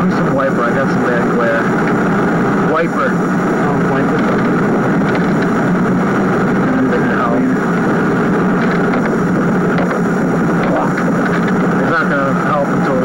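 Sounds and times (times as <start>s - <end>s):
car driving in heavy rain: 0.0s - 13.0s.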